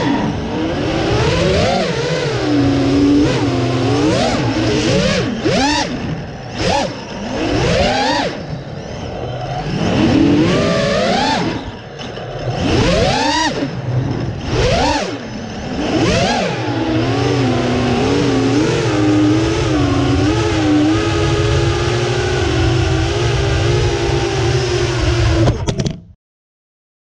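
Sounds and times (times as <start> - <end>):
quadcopter motors whining: 0.0 - 25.7.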